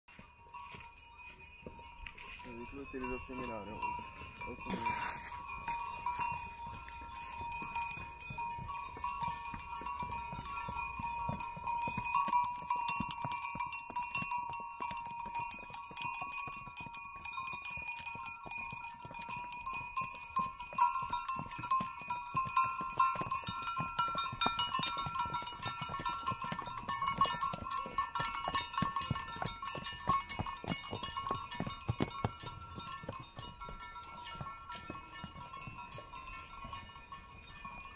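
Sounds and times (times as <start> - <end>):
hooves clicking on stone: 0.1 - 37.9
mule neck bells tinkling: 0.1 - 37.9.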